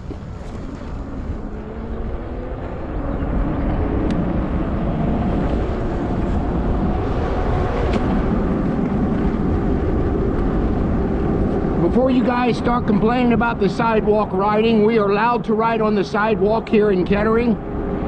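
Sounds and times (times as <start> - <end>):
bike road noise: 0.0 - 18.0
wind on microphone: 0.0 - 18.0.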